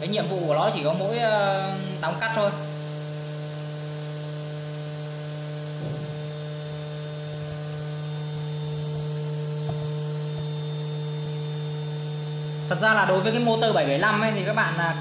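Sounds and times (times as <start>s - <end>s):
electric spindle motor hum: 0.0s - 15.0s.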